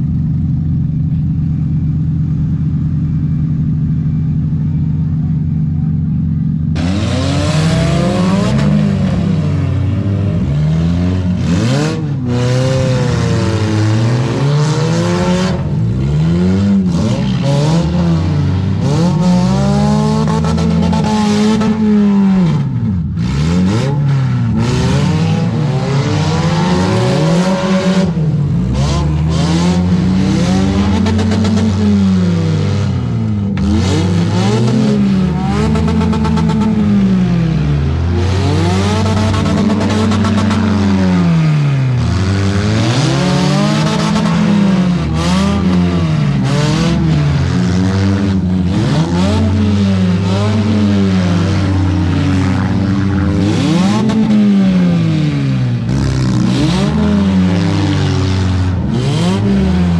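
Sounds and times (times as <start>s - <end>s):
car engines revving hard: 0.0s - 59.9s.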